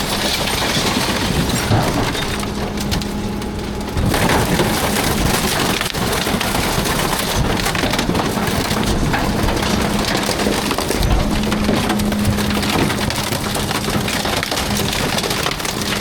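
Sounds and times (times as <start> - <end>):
garbage truck compactor crushing: 0.0 - 16.0
wood cracking and splintering: 0.0 - 16.0
truck hum: 1.5 - 16.0.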